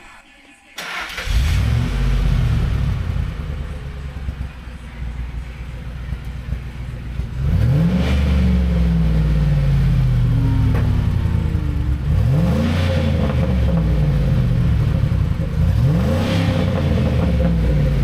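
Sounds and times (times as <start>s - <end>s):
truck engine revving: 0.8s - 18.0s.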